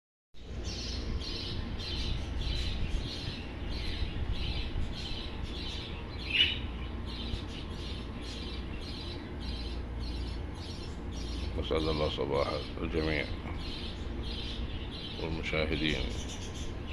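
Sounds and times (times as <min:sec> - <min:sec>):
small birds chirping: 0:00.4 - 0:16.9
steady low rumble: 0:00.4 - 0:16.9.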